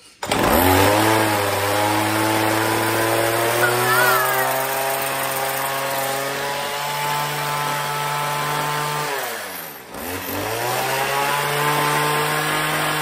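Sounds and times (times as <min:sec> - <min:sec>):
hedge trimmer engine revving: 0:00.2 - 0:13.0.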